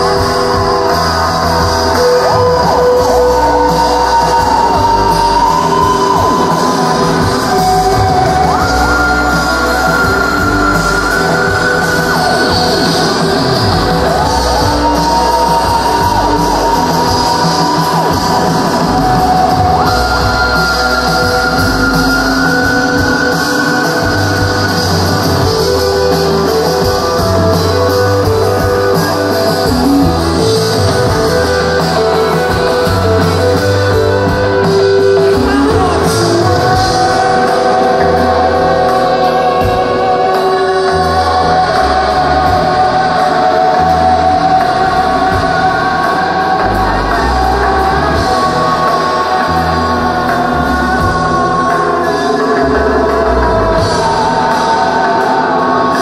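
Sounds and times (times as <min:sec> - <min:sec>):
person singing: 0:00.0 - 0:56.0
rock band playing live: 0:00.0 - 0:56.0.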